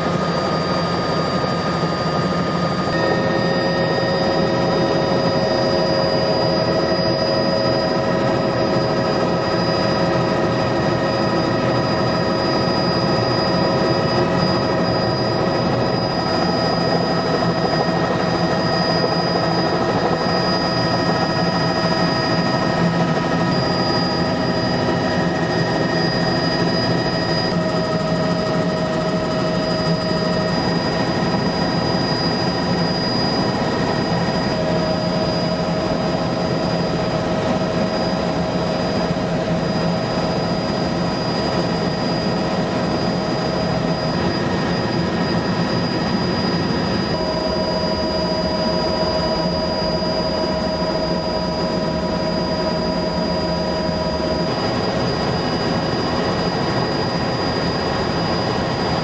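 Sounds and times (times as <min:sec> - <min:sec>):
helicopter engine and rotor: 0:00.0 - 0:59.0
steady whining tones: 0:00.0 - 0:59.0.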